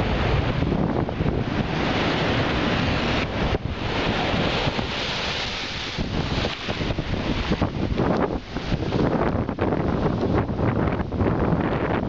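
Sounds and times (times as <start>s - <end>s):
surf breaking against seawall: 0.0s - 12.0s
wind buffeting microphone: 0.0s - 12.0s.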